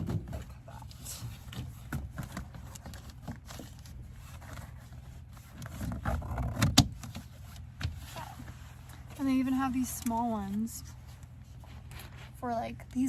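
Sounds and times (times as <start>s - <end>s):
window covers rustling: 0.0s - 12.6s.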